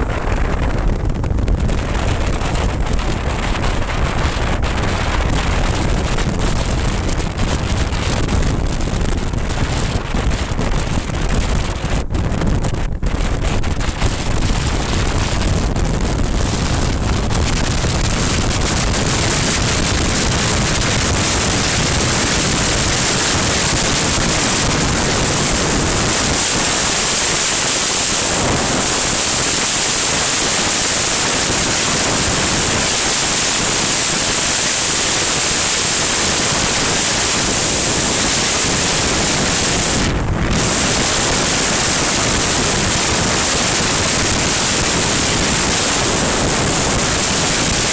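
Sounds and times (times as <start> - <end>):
road noise: 0.0 - 47.9
wind rushing over microphone: 0.0 - 47.9.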